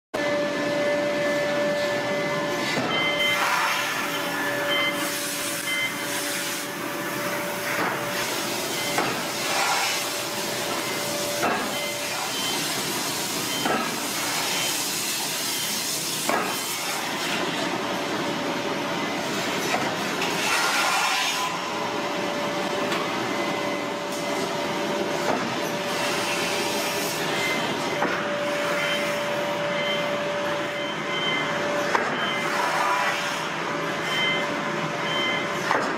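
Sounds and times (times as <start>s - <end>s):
constant machine whine: 0.2s - 35.9s
hissing forging press machinery: 0.2s - 35.9s.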